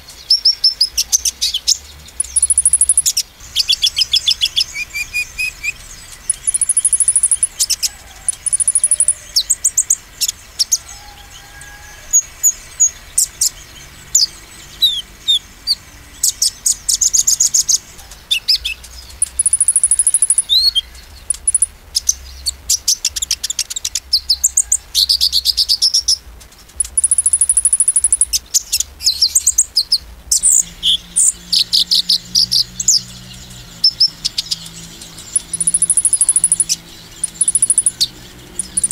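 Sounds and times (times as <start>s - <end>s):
bird singing high-pitched trills: 0.0s - 38.9s.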